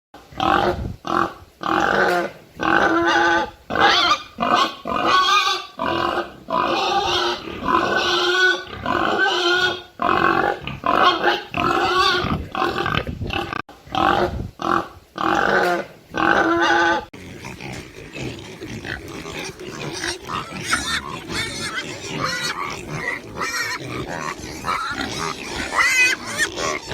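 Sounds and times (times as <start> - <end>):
pig squealing grunts: 0.3 - 26.9.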